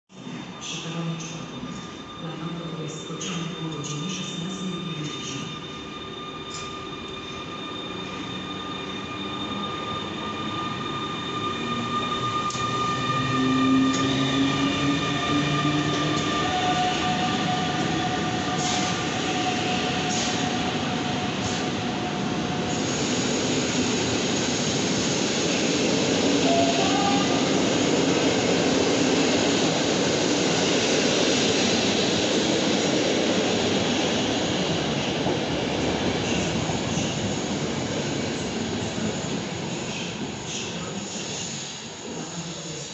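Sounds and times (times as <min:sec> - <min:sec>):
electric locomotive whine: 0:00.1 - 0:42.9
train coaches rumbling: 0:00.2 - 0:42.9.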